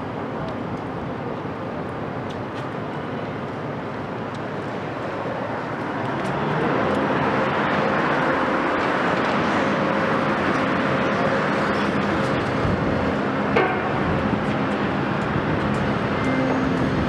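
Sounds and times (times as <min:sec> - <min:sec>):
excavator diesel engine and hydraulics: 0:00.0 - 0:17.0.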